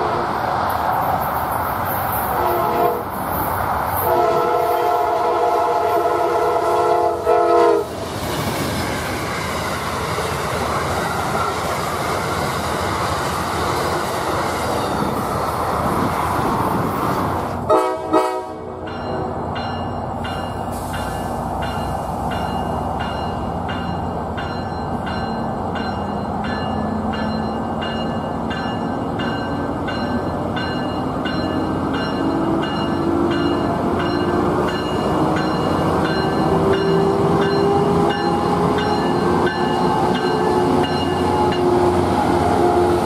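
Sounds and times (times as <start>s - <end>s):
diesel locomotive engine: 0.0s - 43.0s.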